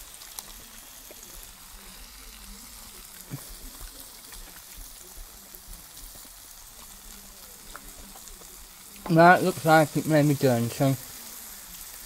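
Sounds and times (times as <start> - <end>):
food sizzling in a frying pan: 0.0 - 12.0
small crackles: 0.0 - 12.0.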